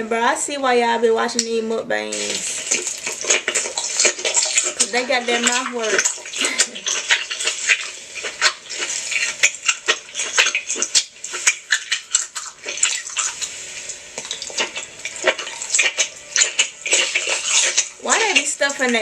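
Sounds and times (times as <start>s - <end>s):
wet eating sounds: 2.1s - 19.0s.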